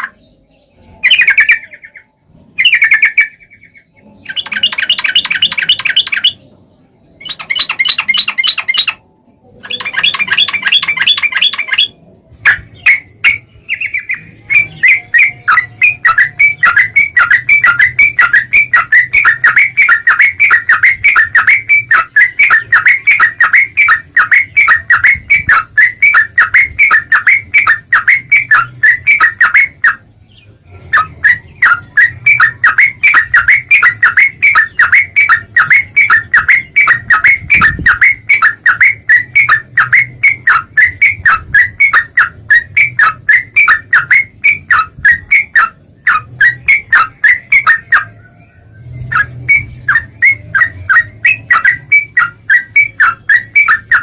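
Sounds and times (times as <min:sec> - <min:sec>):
bird chattering: 0:00.0 - 0:54.0.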